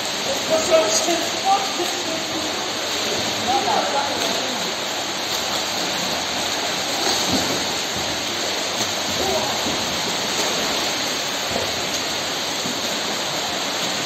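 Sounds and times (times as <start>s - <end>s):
swimmers splashing: 0.0s - 14.0s.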